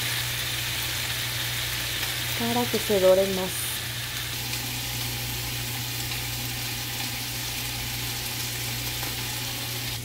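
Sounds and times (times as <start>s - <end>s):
food sizzling: 0.0s - 10.0s.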